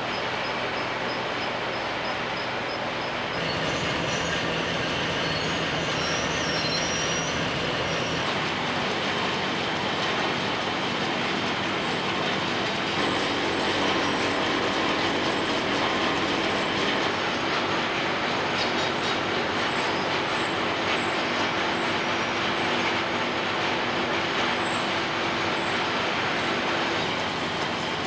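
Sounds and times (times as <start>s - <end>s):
machine running with dense clatter: 0.0s - 28.0s.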